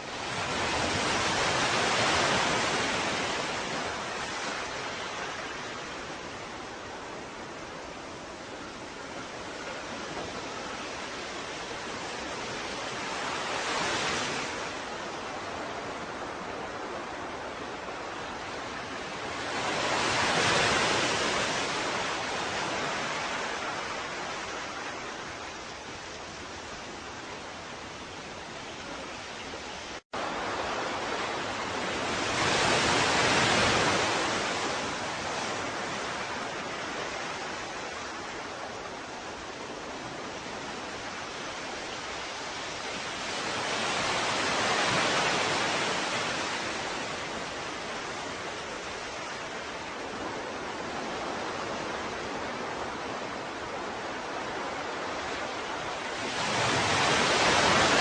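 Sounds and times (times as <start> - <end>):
ocean surf: 0.0 - 58.0
waves breaking: 0.0 - 58.0.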